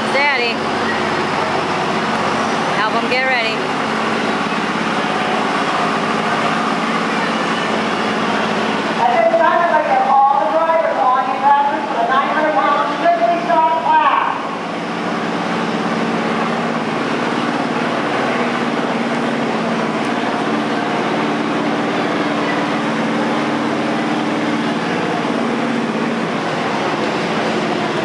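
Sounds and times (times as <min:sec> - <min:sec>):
lawn mower engines running: 0:00.0 - 0:28.0.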